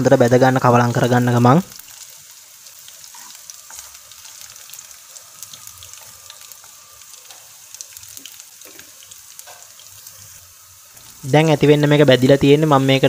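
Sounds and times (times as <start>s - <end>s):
garlic sizzling in oil: 0.0s - 13.0s.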